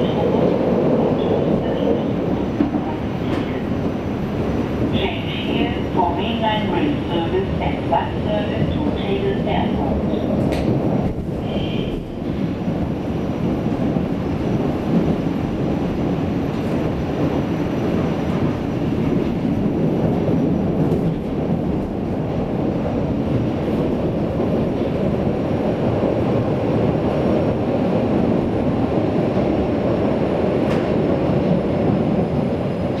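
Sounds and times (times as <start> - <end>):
train rumble on rails: 0.0 - 33.0.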